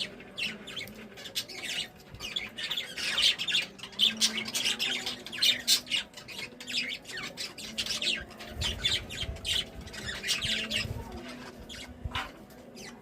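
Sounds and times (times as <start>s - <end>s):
budgerigars chirping and squawking: 0.0s - 13.0s.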